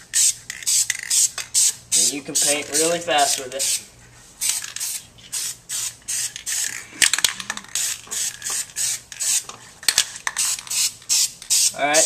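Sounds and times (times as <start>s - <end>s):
spray paint can hissing: 0.1s - 3.8s, 4.4s - 9.5s, 10.2s - 11.8s.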